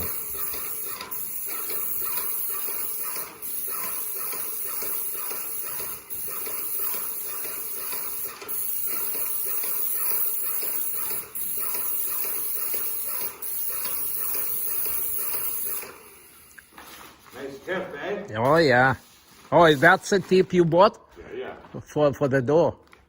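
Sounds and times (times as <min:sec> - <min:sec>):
paint sprayer hissing: 0:00.0 - 0:20.4.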